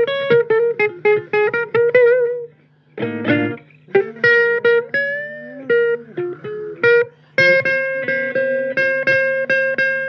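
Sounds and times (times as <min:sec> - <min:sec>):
blues guitar playing: 0:00.0 - 0:10.0.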